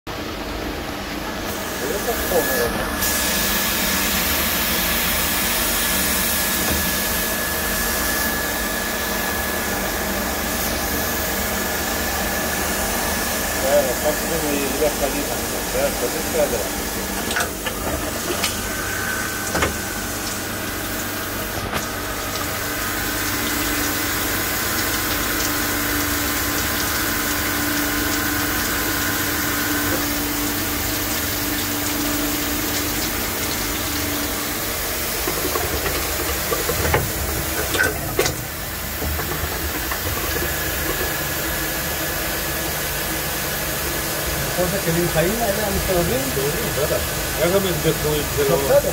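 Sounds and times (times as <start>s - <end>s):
lathe mechanical hum: 0.1s - 48.9s
coolant spraying hiss: 1.3s - 48.9s.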